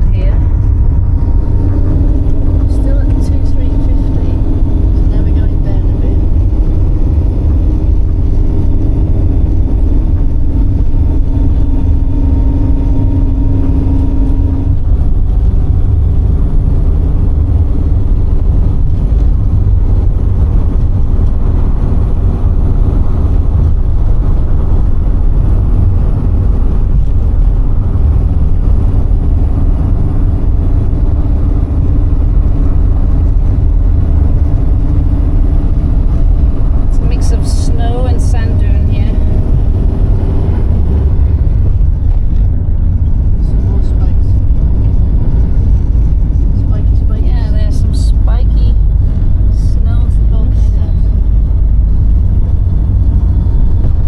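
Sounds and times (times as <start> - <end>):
car engine and road rumble: 0.0 - 54.0
steady engine tone: 0.0 - 54.0.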